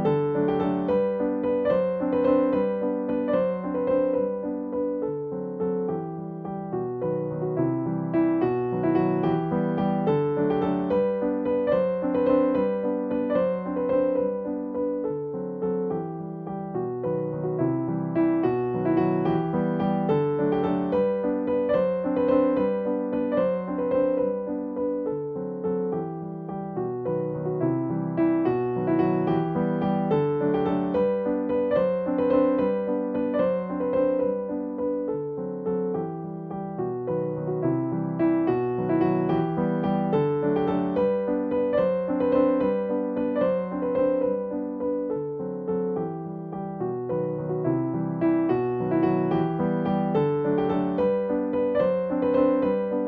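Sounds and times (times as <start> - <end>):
piano melody: 0.0 - 53.0.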